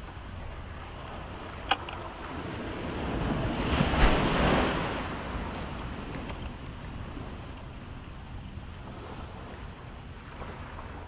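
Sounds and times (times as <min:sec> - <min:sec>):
waves breaking over rocks: 0:00.0 - 0:08.0, 0:08.8 - 0:11.0
wind buffeting microphone: 0:00.0 - 0:11.0.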